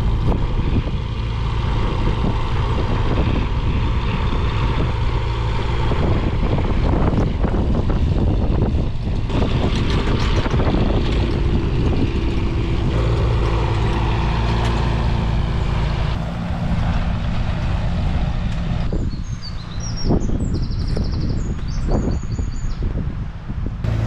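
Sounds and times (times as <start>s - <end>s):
excavator diesel engine rumbling: 0.0s - 20.0s, 23.8s - 24.0s.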